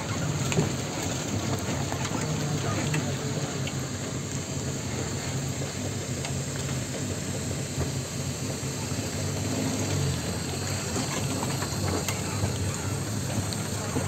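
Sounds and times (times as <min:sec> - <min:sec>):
vehicle engine low hum: 0:00.0 - 0:14.0.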